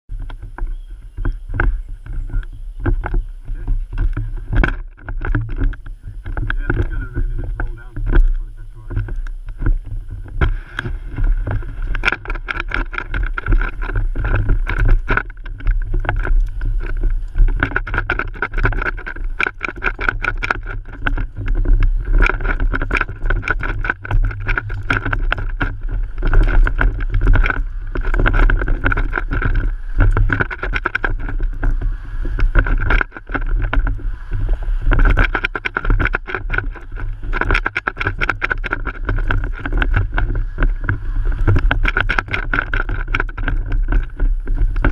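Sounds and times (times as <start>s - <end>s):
steady hum: 0.1s - 44.9s
wind rush: 0.1s - 44.9s
knocks and rattles from bumps: 0.2s - 44.9s.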